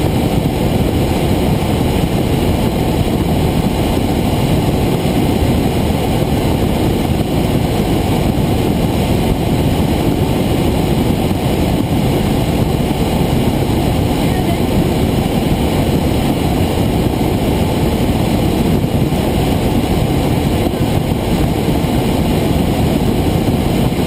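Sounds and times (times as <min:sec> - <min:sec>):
helicopter rotor and engine noise: 0:00.0 - 0:24.0.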